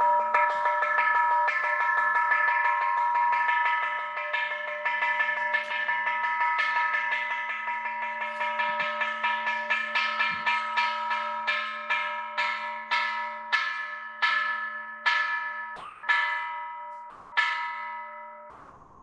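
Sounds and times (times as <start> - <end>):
temple bell ringing: 0.0 - 19.0.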